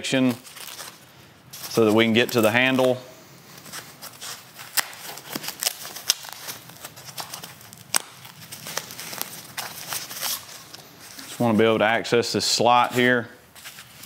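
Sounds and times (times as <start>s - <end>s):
foam packing wrap crackling: 0.1s - 11.6s, 12.8s - 14.0s.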